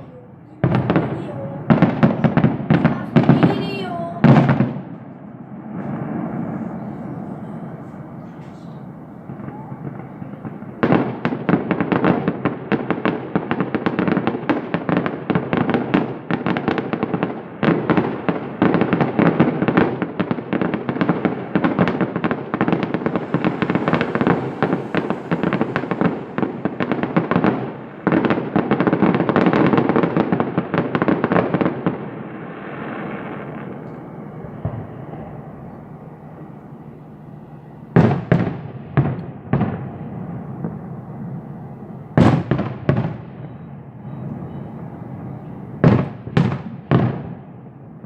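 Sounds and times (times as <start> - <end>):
fireworks crackling bangs: 0.0 - 48.0.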